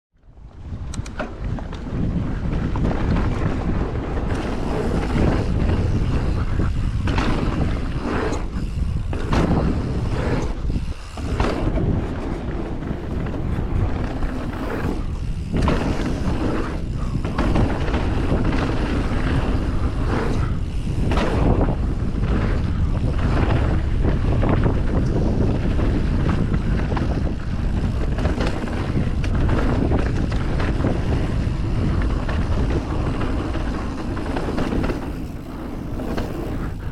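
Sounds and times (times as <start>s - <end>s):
wind rushing over microphone: 0.2s - 36.9s
mountain bike rolling over dirt: 0.3s - 36.9s.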